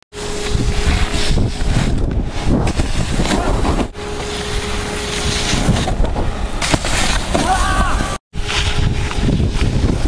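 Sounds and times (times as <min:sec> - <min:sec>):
wind rushing over microphone: 0:00.1 - 0:10.0
snowboard scraping on snow: 0:00.2 - 0:10.0.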